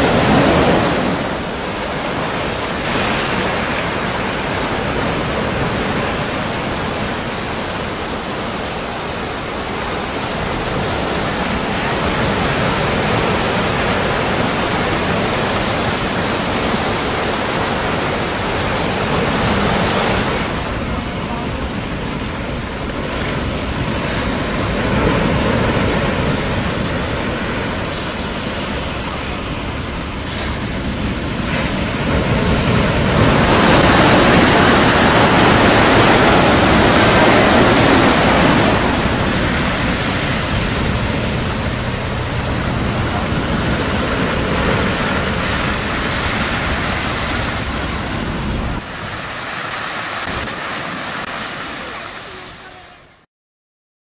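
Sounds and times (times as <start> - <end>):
strong wind rushing: 0.0 - 52.5
sea surf: 0.0 - 53.2.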